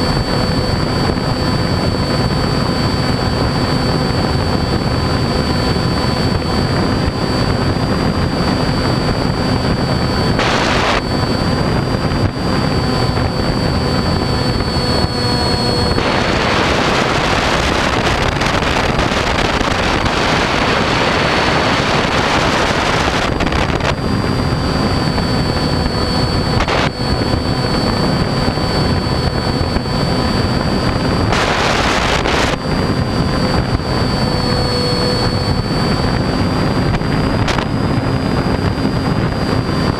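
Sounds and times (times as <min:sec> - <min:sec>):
model plane motor and propeller: 0:00.0 - 0:39.9
wind rushing over microphone: 0:00.0 - 0:39.9.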